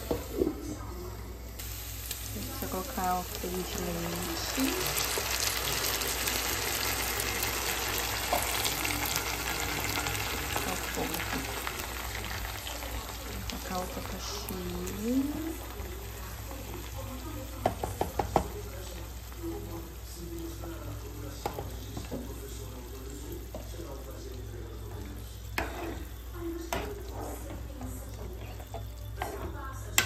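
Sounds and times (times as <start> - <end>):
food sizzling in a pot: 0.0 - 30.0.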